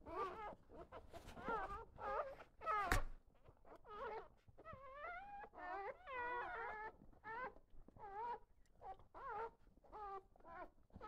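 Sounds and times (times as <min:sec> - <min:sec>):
puppies whimpering and squeaking: 0:00.0 - 0:11.0.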